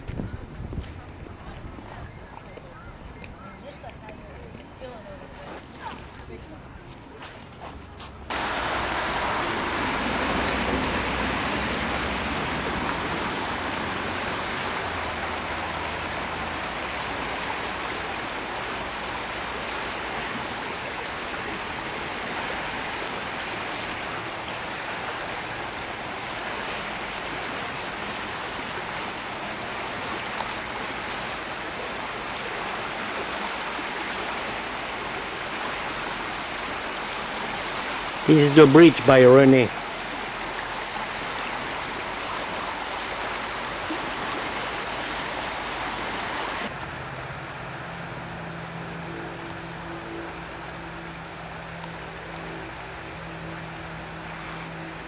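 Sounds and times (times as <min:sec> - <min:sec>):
river rushing: 0:08.2 - 0:55.0.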